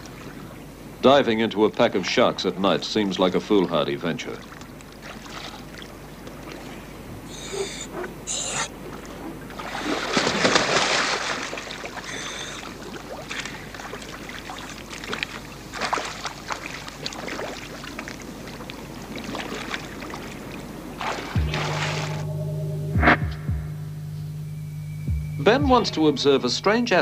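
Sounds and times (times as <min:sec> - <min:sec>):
water splashing: 0:00.0 - 0:22.4.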